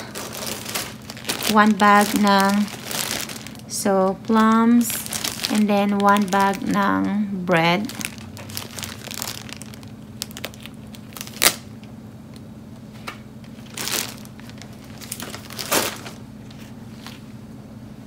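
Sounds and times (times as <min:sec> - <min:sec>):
plastic bag crinkling: 0:00.0 - 0:11.8, 0:13.4 - 0:17.2
low hum: 0:00.0 - 0:18.0.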